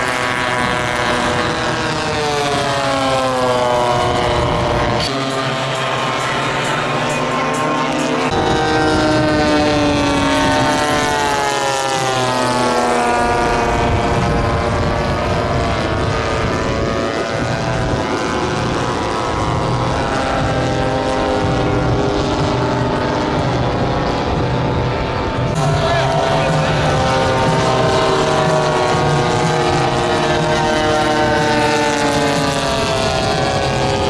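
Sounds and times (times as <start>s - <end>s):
model plane engines flying past: 0.0s - 34.0s.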